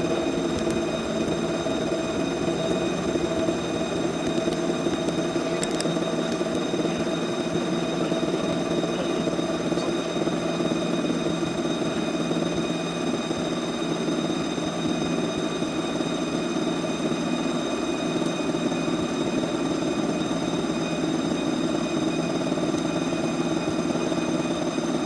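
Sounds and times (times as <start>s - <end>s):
spindle whine: 0.0s - 25.0s.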